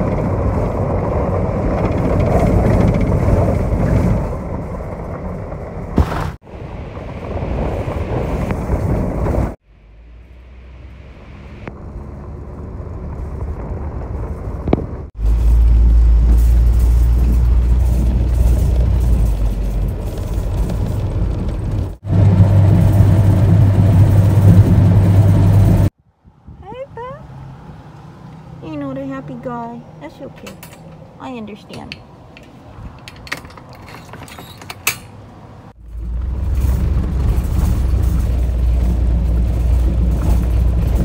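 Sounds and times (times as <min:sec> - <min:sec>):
vehicle road rumble: 0:00.0 - 0:41.0.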